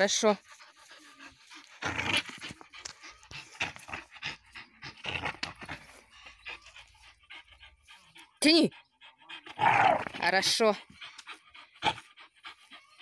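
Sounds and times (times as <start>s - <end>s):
dog panting hard: 0.0s - 13.0s.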